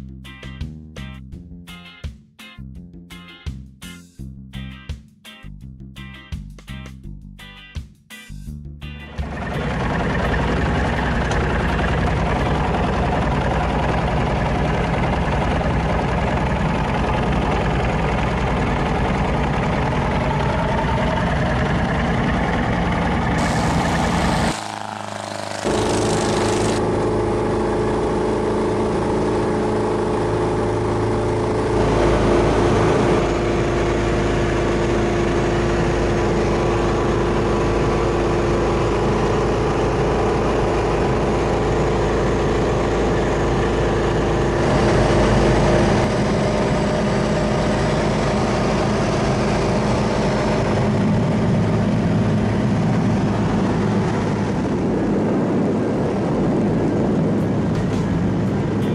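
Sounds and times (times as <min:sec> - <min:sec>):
aircraft engine and propeller running: 0:08.8 - 0:58.9.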